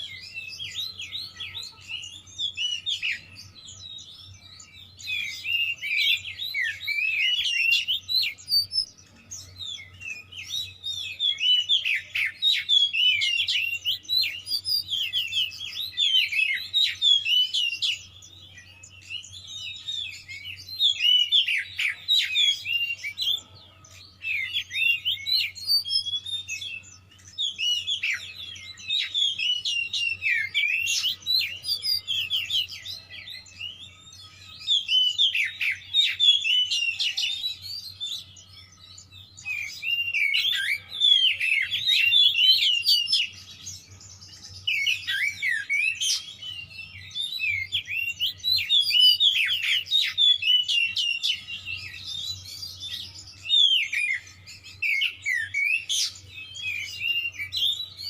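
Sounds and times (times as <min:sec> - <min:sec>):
bird singing chirps and whistles: 0:00.0 - 0:58.0.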